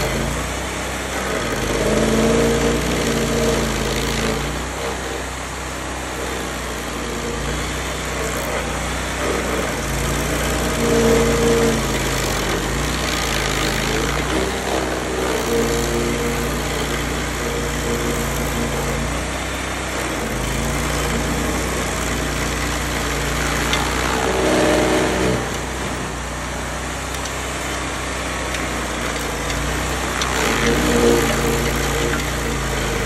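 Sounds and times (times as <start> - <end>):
stump grinder engine running hard: 0.0 - 33.0.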